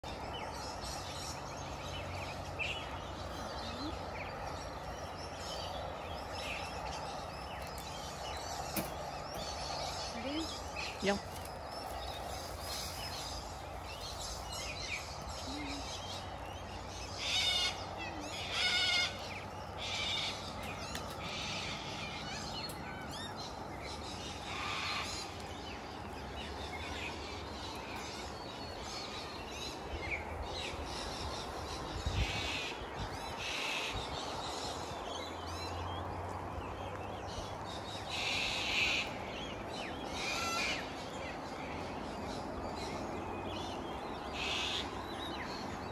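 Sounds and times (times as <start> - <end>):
birds chattering: 0.0 - 45.9.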